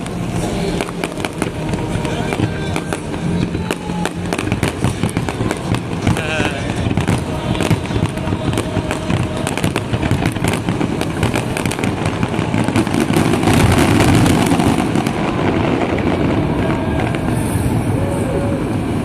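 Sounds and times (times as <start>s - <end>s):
fireworks popping and banging: 0.0s - 19.0s.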